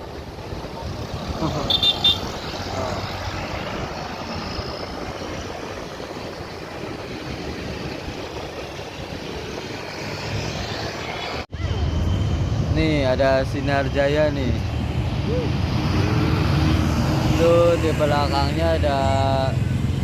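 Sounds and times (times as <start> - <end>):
diesel engines rumbling: 0.0 - 20.0.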